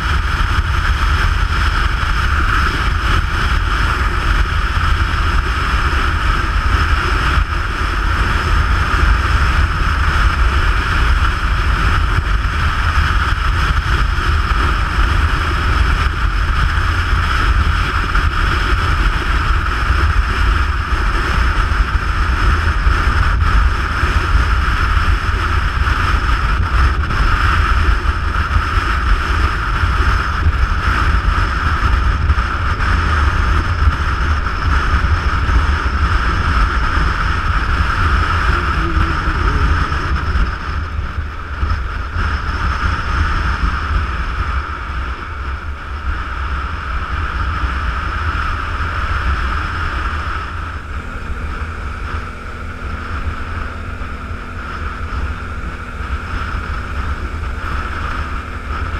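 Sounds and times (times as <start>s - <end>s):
motorcycle engine drone: 0.0s - 58.9s
wind rush on microphone: 0.0s - 58.9s.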